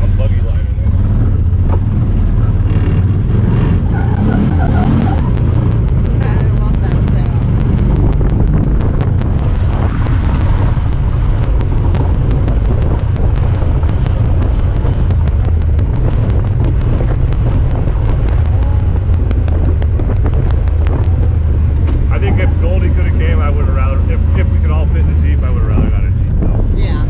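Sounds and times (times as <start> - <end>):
vehicle engine running: 0.0 - 27.0
wind on microphone: 3.3 - 23.8, 25.4 - 27.0.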